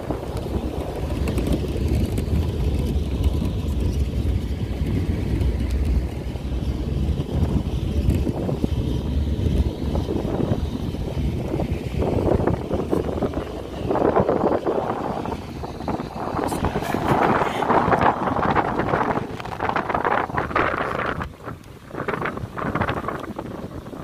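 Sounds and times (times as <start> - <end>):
pickup truck rumble: 0.0 - 24.0
wind buffeting microphone: 0.0 - 24.0.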